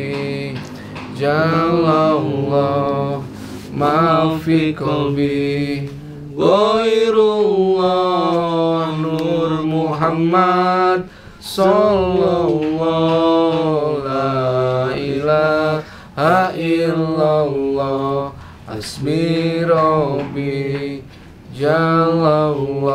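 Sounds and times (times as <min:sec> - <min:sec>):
man chanting: 0:00.0 - 0:22.9.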